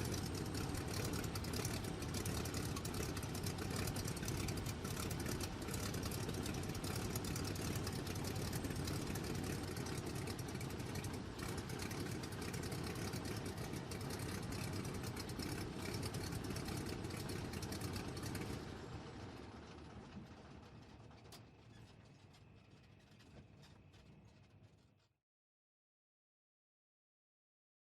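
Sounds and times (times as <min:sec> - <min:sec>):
biplane engine idling: 0:00.0 - 0:25.0.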